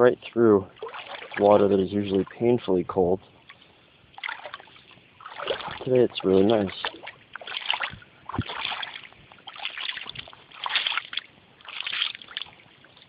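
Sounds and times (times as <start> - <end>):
feet wading through water: 0.6 - 13.0.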